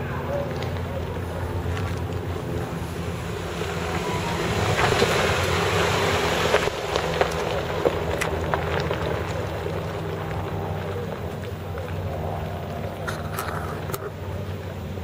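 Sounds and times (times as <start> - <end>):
car engine low drone: 0.0 - 15.0
tyres clicking on gravel: 0.0 - 15.0.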